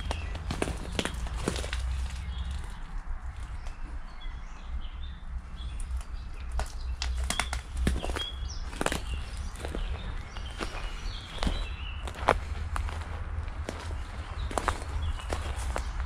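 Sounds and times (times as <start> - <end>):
irregular sharp footsteps: 0.0 - 3.9, 5.8 - 16.0
steady low rumble: 0.0 - 16.0.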